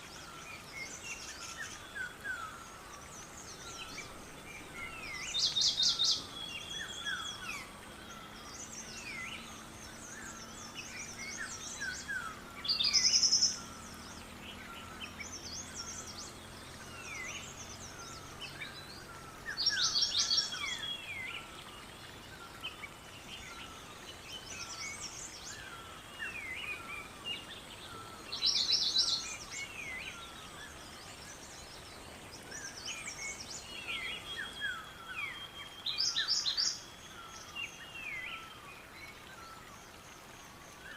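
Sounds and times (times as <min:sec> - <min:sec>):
faint outdoor hiss: 0:00.0 - 0:40.9
songbirds chirping and whistling: 0:00.0 - 0:40.9.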